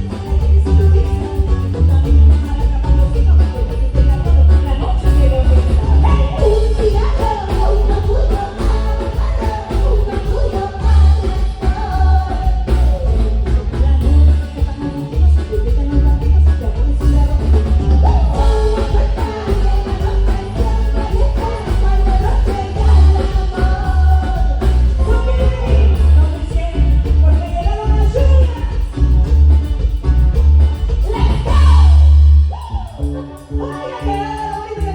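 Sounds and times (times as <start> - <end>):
heavy pounding bass: 0.0 - 32.6
live band music with singing: 0.0 - 34.9.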